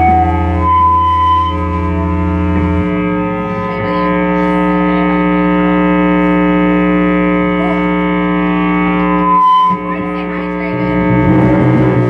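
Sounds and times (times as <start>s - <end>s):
guitar amplifier feedback drone: 0.0s - 12.0s.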